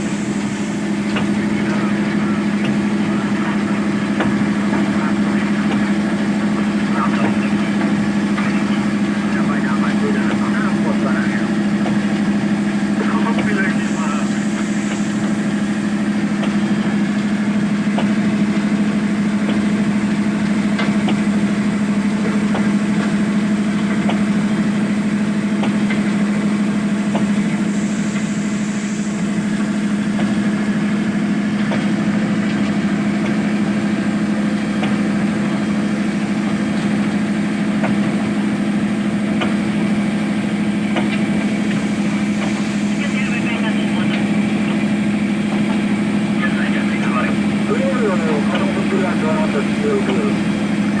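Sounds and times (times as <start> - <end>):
heavy machine engine humming: 0.0 - 51.0.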